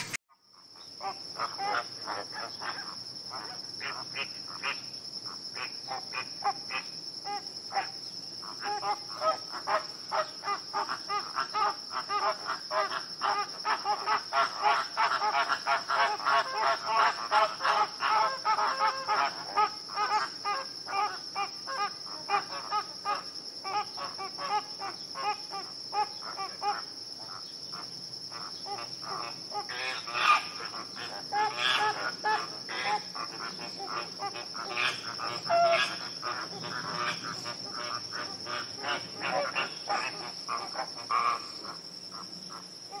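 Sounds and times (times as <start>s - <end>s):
flock of flamingos calling: 5.6s - 43.0s.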